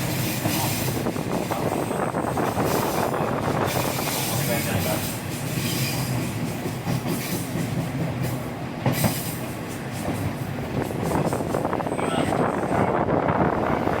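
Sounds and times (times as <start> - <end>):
diesel train engine drone: 0.0 - 14.0.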